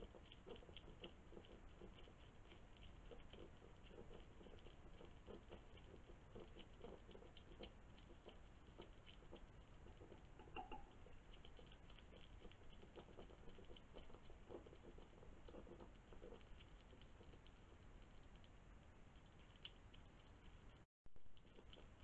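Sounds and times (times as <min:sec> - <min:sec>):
hedgehog chewing and smacking: 0:00.0 - 0:22.0.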